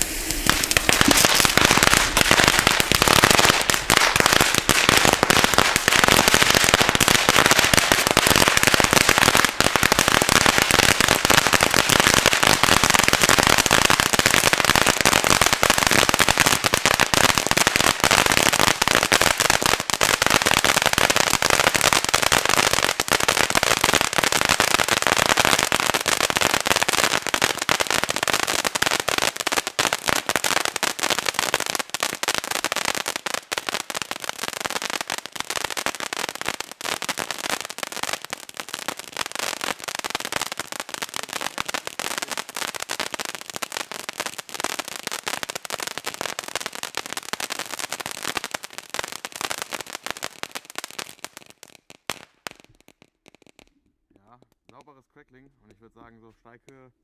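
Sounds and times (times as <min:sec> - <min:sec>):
firework fountain crackling: 0:00.0 - 0:56.8.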